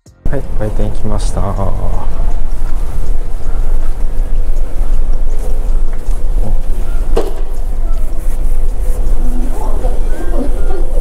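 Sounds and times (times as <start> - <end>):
low ship engine drone: 0.2 - 11.0.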